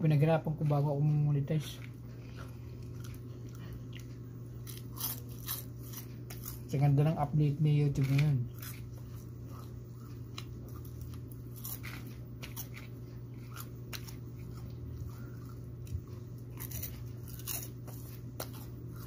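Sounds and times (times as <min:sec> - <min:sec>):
steady low hum: 0:00.0 - 0:19.0
crunchy chewing of peanuts: 0:00.1 - 0:19.0.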